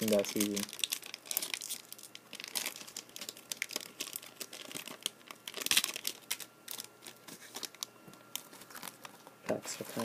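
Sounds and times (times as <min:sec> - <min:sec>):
card wrappers crinkling: 0:00.0 - 0:10.0.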